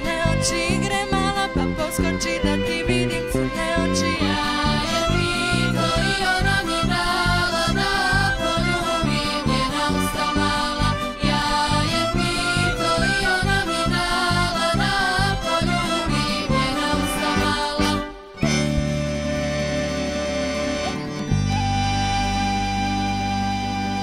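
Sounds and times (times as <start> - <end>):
accordion lead: 0.0 - 24.0
folk dance music: 0.0 - 24.0.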